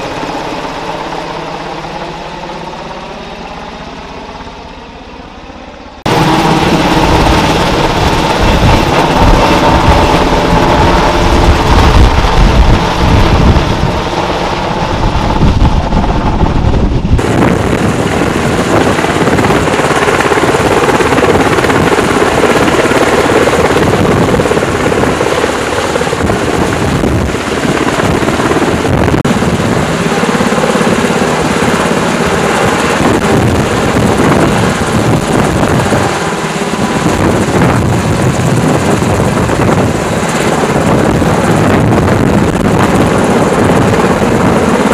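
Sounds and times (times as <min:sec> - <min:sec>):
helicopter rotor: 0:00.0 - 0:44.9.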